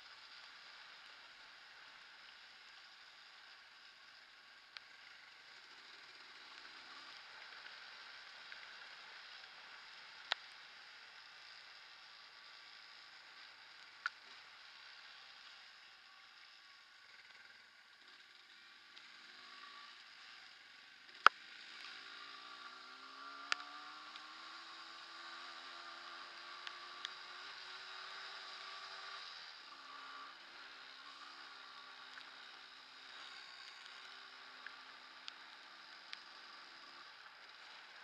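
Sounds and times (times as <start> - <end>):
trail bike engine: 0.0 - 38.0.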